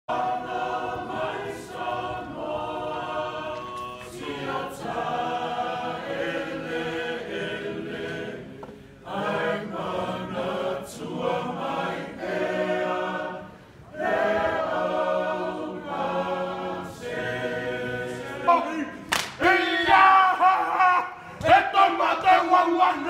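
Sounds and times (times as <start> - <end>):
choir singing unaccompanied: 0.1 - 19.0.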